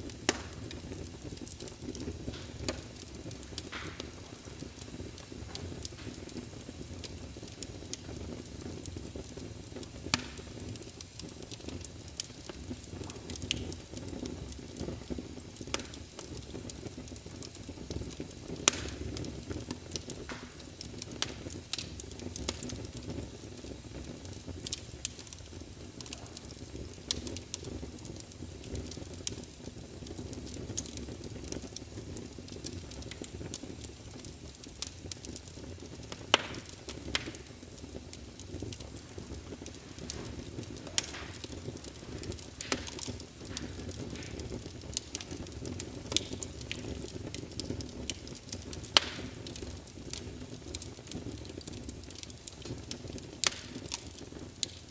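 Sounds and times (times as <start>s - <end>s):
sharp pops of fire: 0.0s - 54.9s
wood fire crackling: 0.0s - 54.9s.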